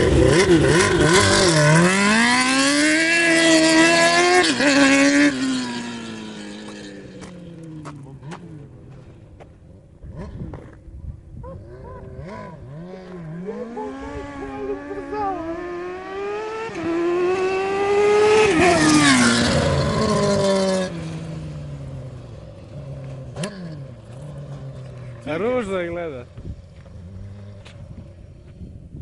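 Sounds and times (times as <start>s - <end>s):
go-kart engine revving: 0.0s - 8.8s, 11.6s - 26.2s.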